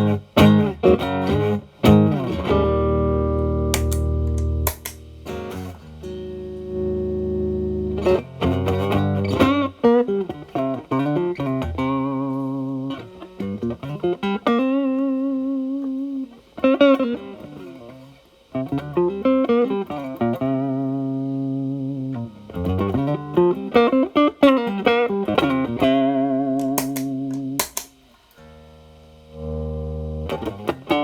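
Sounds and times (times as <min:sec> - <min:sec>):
electric guitar playing bluesy lines: 0:00.0 - 0:27.6, 0:28.8 - 0:31.0.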